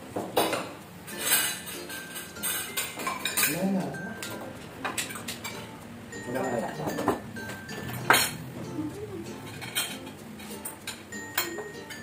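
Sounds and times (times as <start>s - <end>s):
cutlery clinking on plates: 0.2s - 8.4s, 9.4s - 12.0s.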